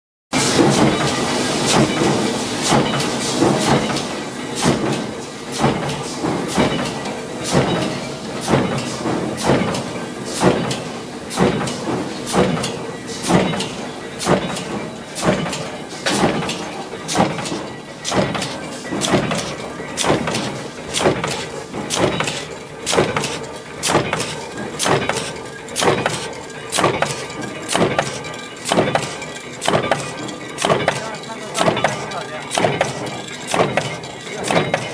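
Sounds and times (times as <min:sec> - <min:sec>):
power press stamping: 0:00.4 - 0:34.9.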